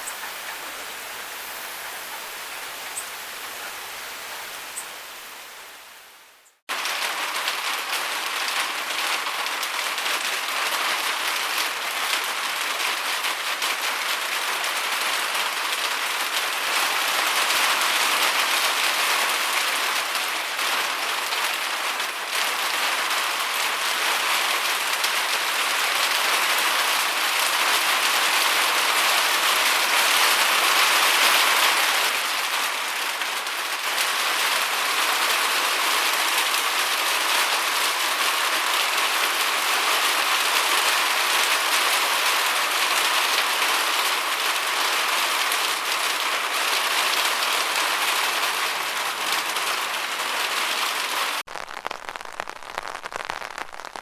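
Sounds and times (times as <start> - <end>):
rain pattering on a gutter: 6.5 - 54.0.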